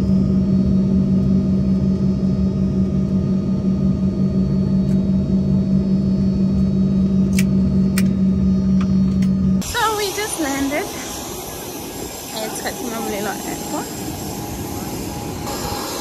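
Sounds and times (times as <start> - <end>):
airliner cabin engine drone: 0.0 - 16.0
constant low hum tone: 0.0 - 16.0.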